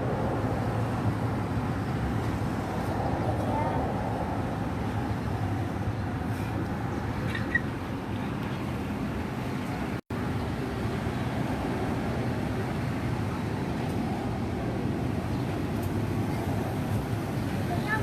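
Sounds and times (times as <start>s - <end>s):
airplane passing overhead: 0.0s - 18.0s.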